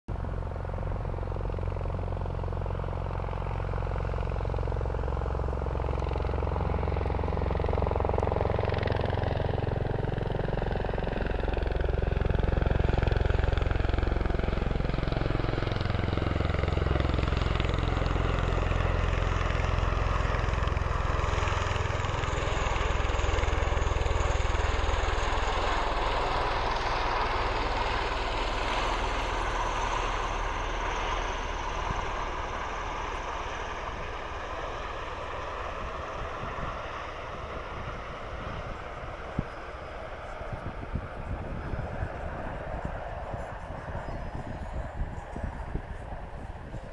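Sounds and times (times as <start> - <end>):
aircraft rotors thrumming: 0.1 - 46.9.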